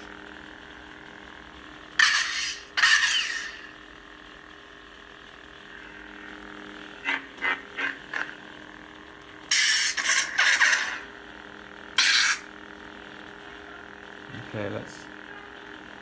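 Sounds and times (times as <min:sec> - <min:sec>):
lightsaber electric hum: 0:00.0 - 0:16.0.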